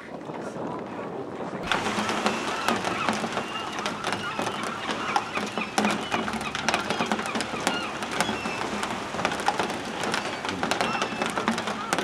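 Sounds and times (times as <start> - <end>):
gulls calling: 1.6 - 12.0.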